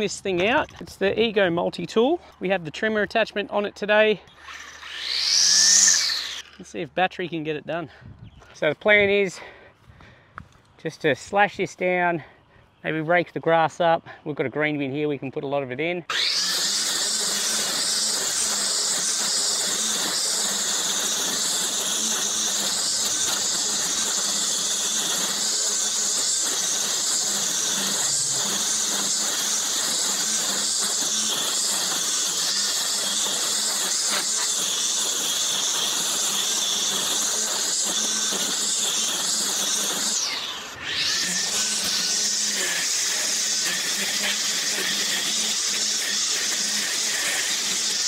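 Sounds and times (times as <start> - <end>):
string trimmer whining: 0.0 - 6.9, 16.0 - 48.0.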